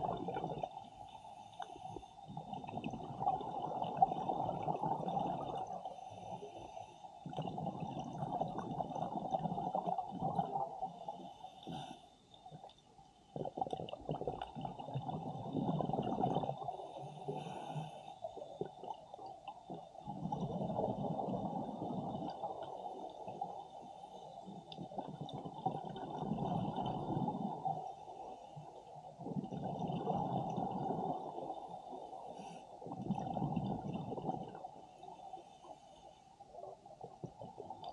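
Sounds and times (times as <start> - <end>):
scuba regulator bubbles gurgling: 0.0 - 37.9.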